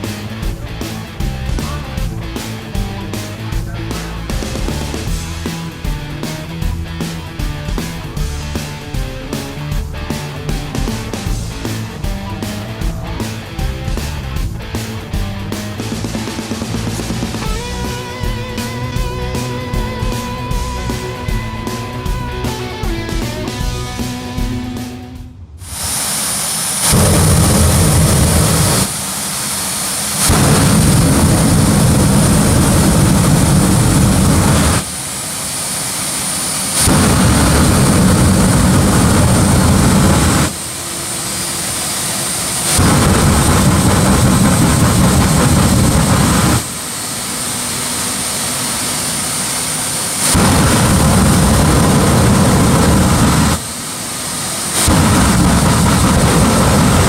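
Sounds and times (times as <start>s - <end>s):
high turbine whine: 0.0s - 57.0s
turbine jet engine blasts: 0.0s - 57.0s.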